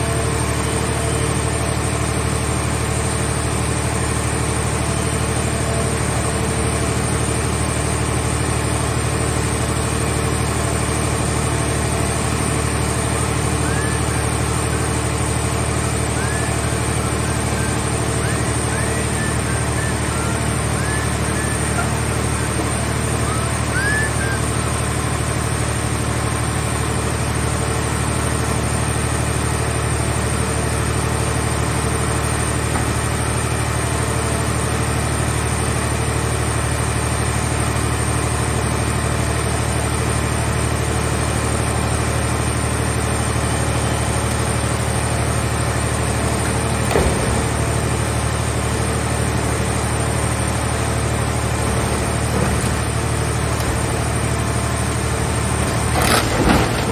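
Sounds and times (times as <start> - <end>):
baler engine running: 0.0 - 56.9.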